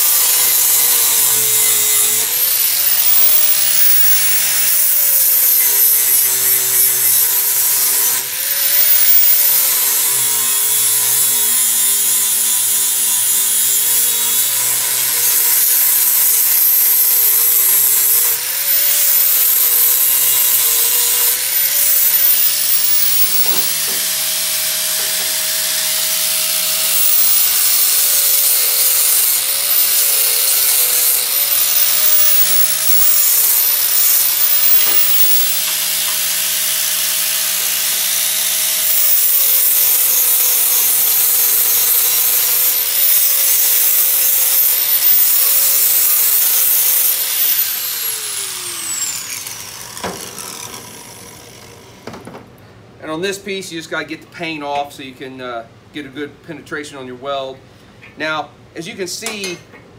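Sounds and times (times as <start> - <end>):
angle grinder grinding metal: 0.0 - 52.2.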